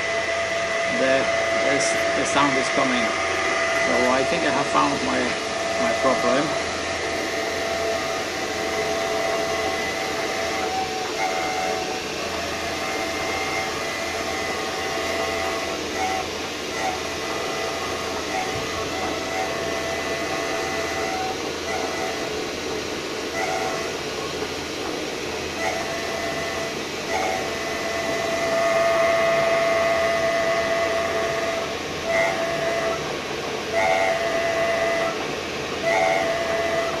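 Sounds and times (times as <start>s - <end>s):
whistling squeal: 0.0s - 22.6s, 23.3s - 24.2s, 25.5s - 33.1s, 33.7s - 35.2s, 35.8s - 37.0s
bearing spinning in a lathe: 0.0s - 37.0s.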